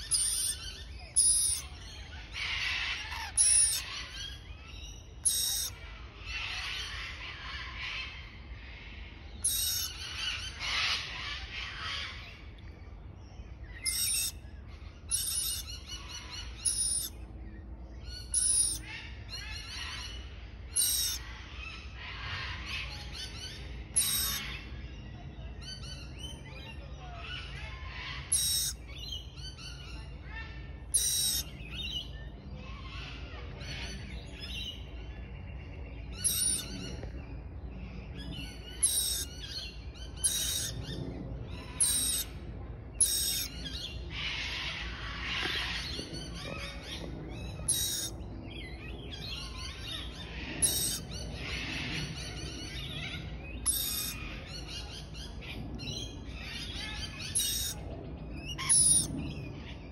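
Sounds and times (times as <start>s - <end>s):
lorikeets chirping: 0.0s - 8.4s, 9.3s - 12.5s, 13.5s - 24.8s, 25.6s - 30.2s, 30.8s - 32.3s, 35.9s - 37.1s, 38.1s - 42.4s, 43.0s - 59.6s
soft bird chatter: 0.0s - 59.9s.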